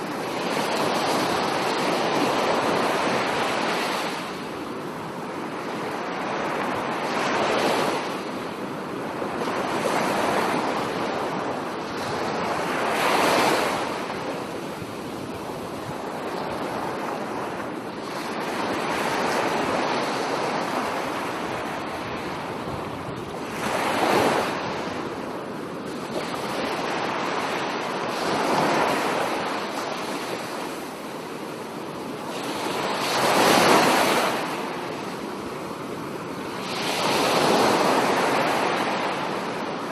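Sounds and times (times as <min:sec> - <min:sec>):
waves breaking on beach: 0:00.0 - 0:39.9
wind on microphone: 0:00.0 - 0:39.9.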